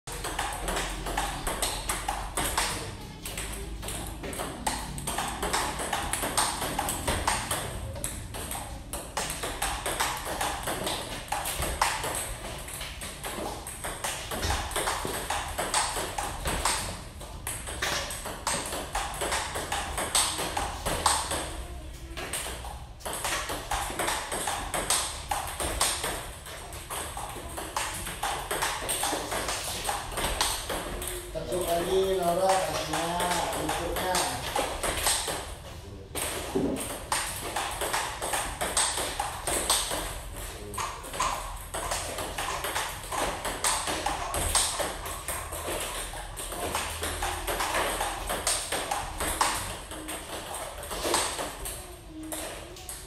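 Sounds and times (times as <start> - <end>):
table tennis ball clicking: 0.1 - 35.6, 36.2 - 53.0.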